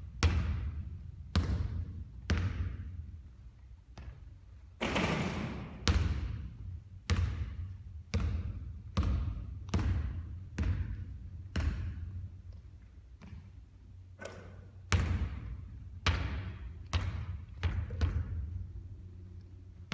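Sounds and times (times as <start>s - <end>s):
basketball bouncing on hard court: 0.1s - 3.1s, 4.0s - 12.6s, 13.2s - 13.6s, 14.2s - 18.7s.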